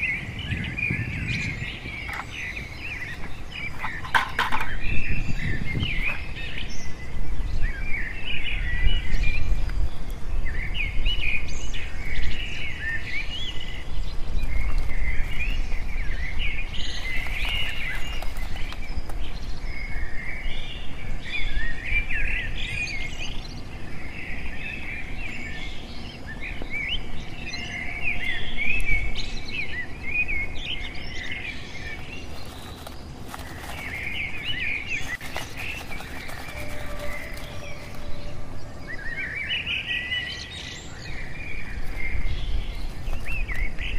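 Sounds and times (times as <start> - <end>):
low wind rumble: 0.0 - 43.9
small birds chirping: 0.0 - 43.9.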